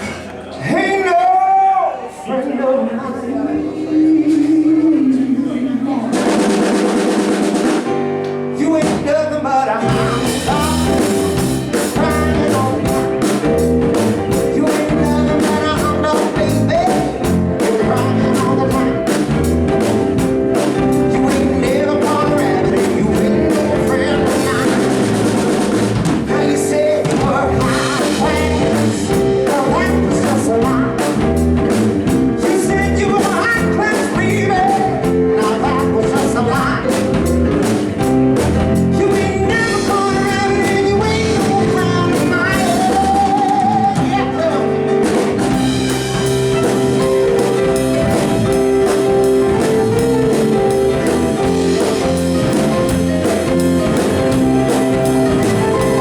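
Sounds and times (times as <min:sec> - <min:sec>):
live rock and roll band: 0:00.0 - 0:56.0.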